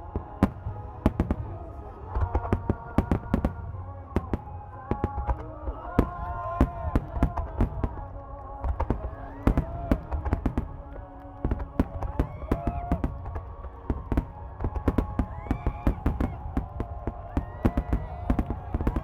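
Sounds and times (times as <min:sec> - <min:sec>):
fireworks cracking: 0:00.0 - 0:19.0.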